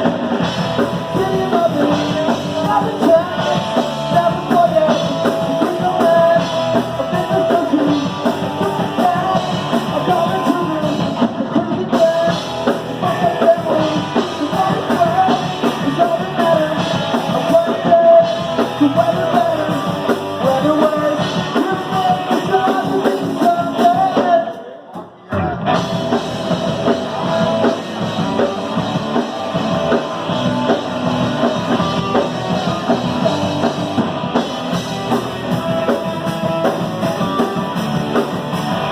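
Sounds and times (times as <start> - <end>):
person singing: 0.0 - 33.7
drum kit: 0.0 - 38.9
electric guitar: 0.0 - 38.9.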